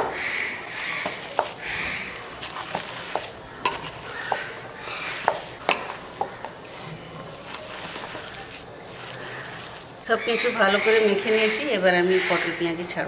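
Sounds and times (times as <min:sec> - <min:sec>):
hands tossing vegetables with flour: 0:00.6 - 0:12.6.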